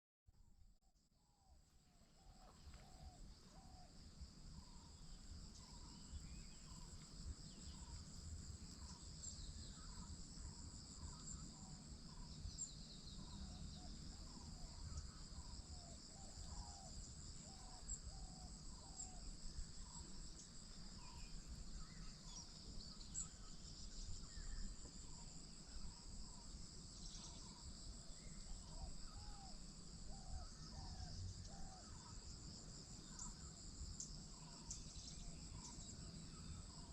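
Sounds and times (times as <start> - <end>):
insects chirring: 1.6 - 36.9.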